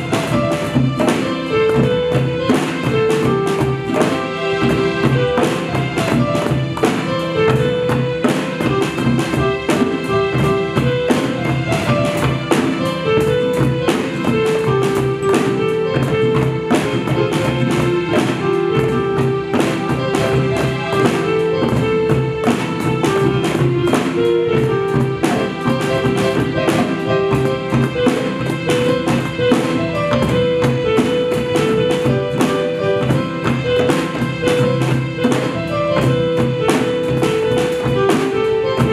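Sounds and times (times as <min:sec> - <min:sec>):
band playing instrumental piece: 0:00.0 - 0:38.9
hand drums and drum kit beat: 0:00.0 - 0:38.9.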